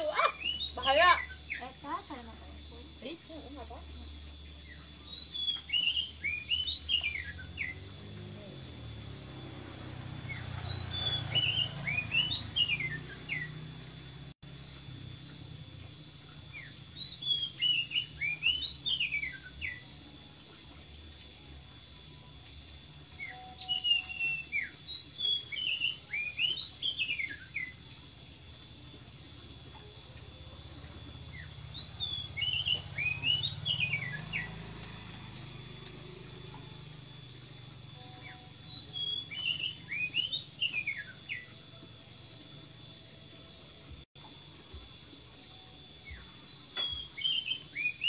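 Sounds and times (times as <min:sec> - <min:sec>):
songbird chirping and whistling: 0:00.0 - 0:14.1, 0:16.1 - 0:43.2, 0:43.9 - 0:48.0.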